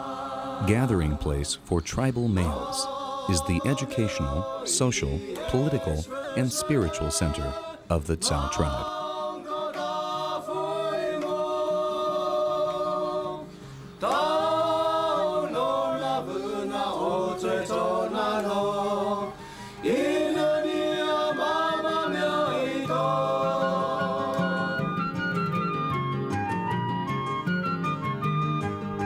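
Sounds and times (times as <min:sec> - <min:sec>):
group of voices singing a chant: 0:00.0 - 0:24.8.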